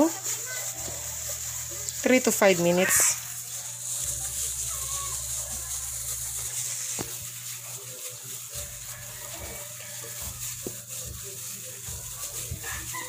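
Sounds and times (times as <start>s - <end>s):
glove rustle: 0.0s - 13.0s.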